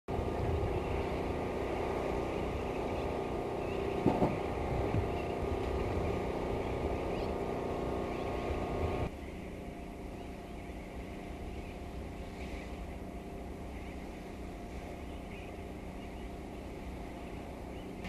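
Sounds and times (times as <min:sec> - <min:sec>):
motor humming: 0:00.1 - 0:18.0.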